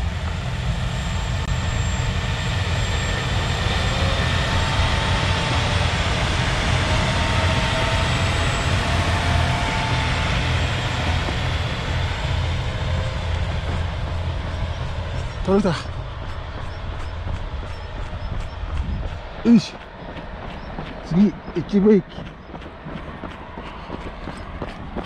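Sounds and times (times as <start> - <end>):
diesel railcar drone: 0.0 - 25.0.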